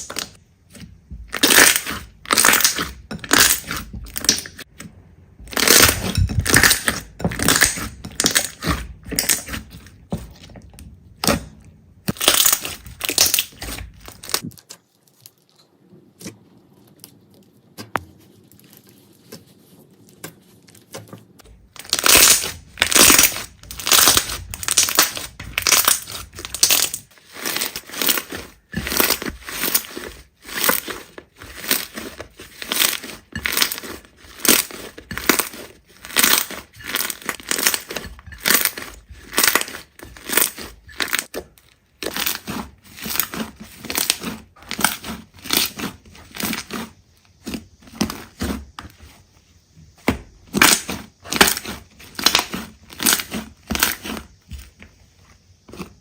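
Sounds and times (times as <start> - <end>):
slime squishing by hand: 0.0 - 56.0.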